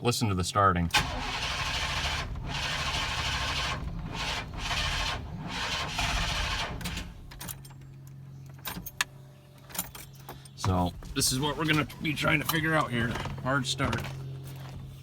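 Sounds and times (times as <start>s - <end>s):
engine cranking without firing: 0.9s - 9.1s, 9.8s - 15.0s.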